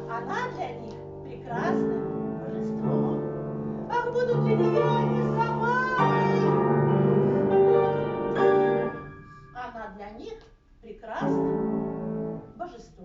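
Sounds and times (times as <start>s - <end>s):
piano chords: 0.0s - 9.7s, 11.2s - 12.8s.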